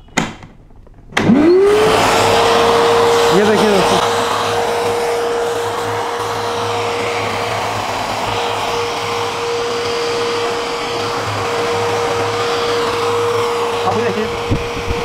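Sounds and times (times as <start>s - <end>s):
vacuum extractor motor whine: 0.1s - 15.0s
air rushing through hose: 1.3s - 15.0s.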